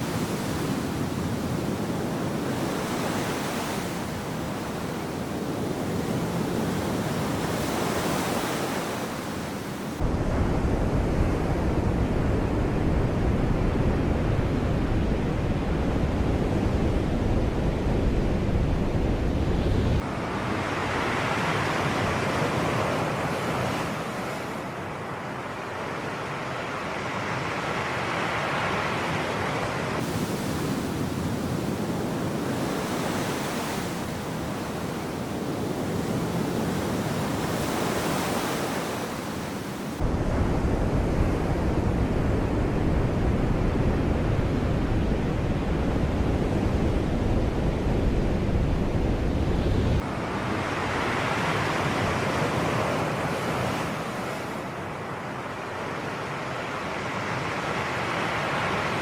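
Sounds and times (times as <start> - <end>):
wind rumble on microphone: 0.0 - 24.7, 28.2 - 55.0
sea waves washing ashore: 0.0 - 59.0.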